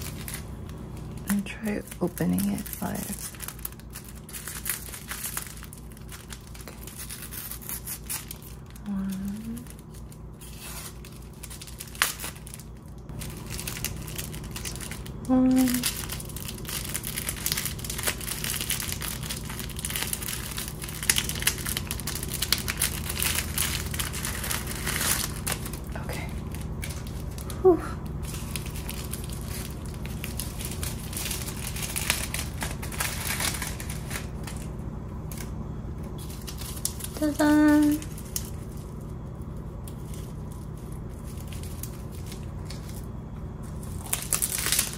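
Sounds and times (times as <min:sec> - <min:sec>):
plastic wrapper crinkling: 0:00.0 - 0:44.9.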